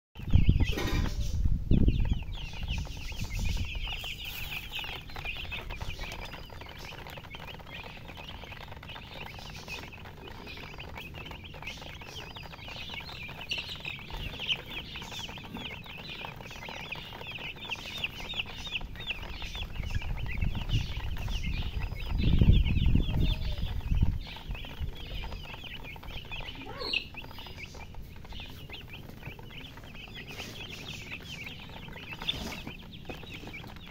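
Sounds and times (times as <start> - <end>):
baby chicks peeping: 0.2 - 33.9.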